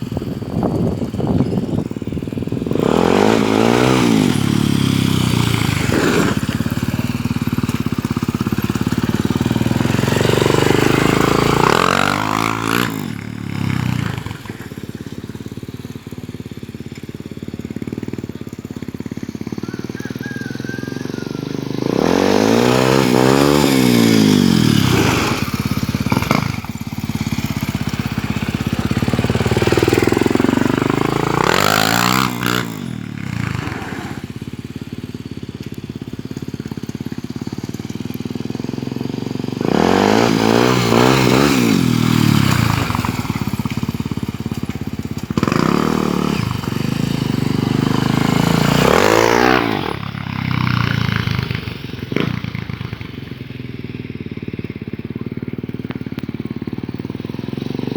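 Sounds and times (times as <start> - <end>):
motorcycle revving past: 0.0 - 16.0, 17.7 - 54.3.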